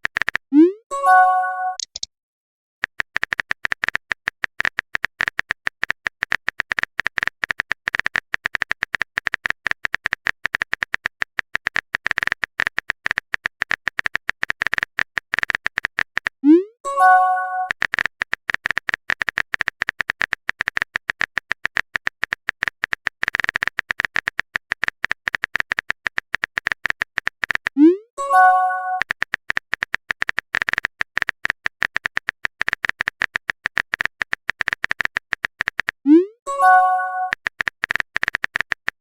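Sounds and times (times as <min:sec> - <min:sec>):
phone keyboard typing clicks: 0:00.0 - 0:00.5, 0:01.1 - 0:02.1, 0:02.8 - 0:16.4, 0:17.0 - 0:39.0.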